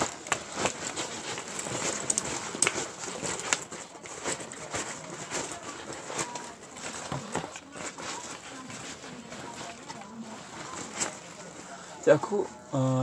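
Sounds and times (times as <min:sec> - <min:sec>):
rustling cloth: 0:00.0 - 0:12.8.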